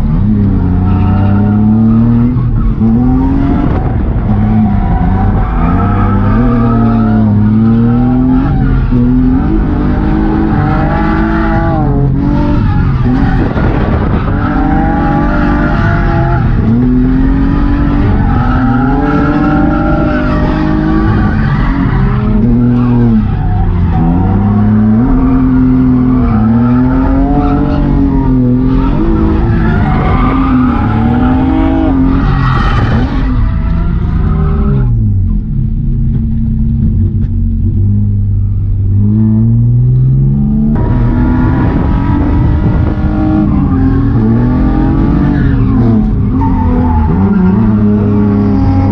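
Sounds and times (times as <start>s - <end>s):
tyres skidding: 0.0s - 37.8s, 38.7s - 48.9s
car engine revving: 0.0s - 48.9s.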